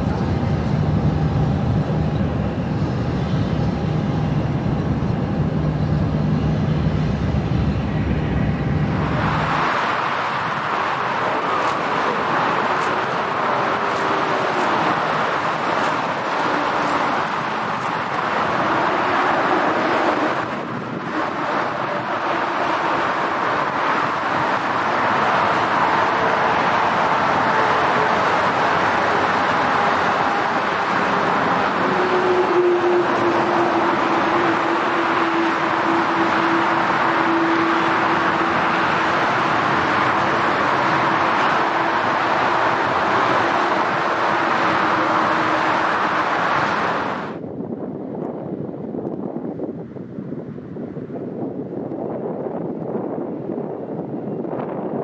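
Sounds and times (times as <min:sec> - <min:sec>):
jet engines roaring: 0:00.0 - 0:47.5.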